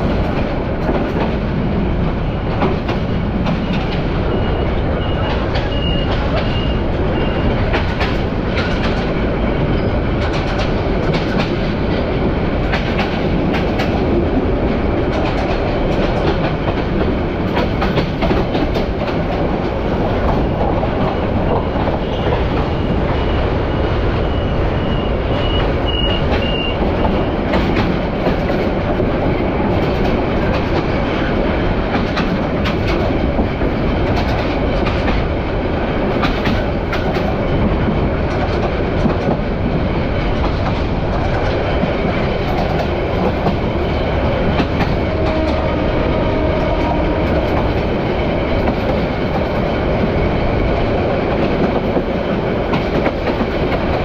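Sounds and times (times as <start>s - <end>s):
train wheel clacks: 0.0s - 23.4s, 24.2s - 54.0s
train wheels rumbling on track: 0.0s - 54.0s.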